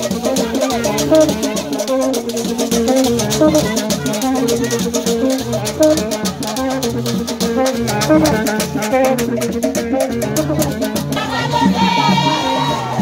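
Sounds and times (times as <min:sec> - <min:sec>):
rattles and drums: 0:00.0 - 0:13.0.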